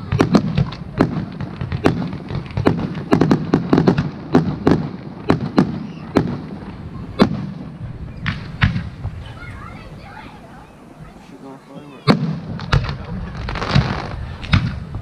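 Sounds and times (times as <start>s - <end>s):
firework shells bursting: 0.0s - 9.2s, 12.0s - 15.0s.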